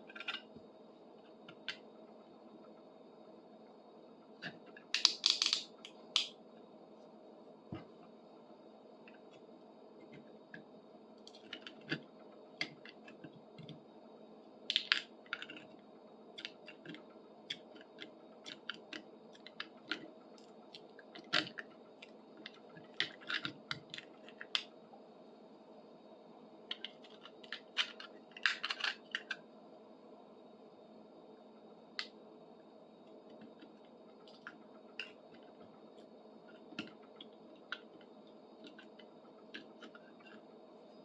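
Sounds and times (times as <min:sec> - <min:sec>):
faint hum: 0:00.0 - 0:41.0.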